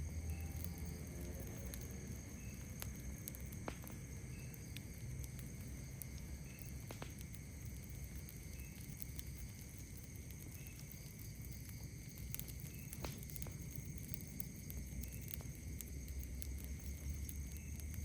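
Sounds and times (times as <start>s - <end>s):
campfire crackling and popping: 0.0s - 18.0s
night insects droning: 0.0s - 18.0s.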